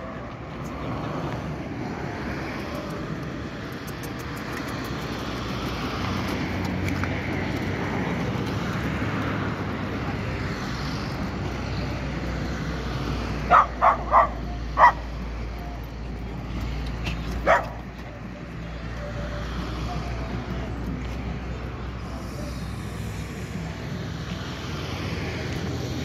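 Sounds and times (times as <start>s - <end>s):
passing vehicle engine rumble: 0.0s - 26.0s.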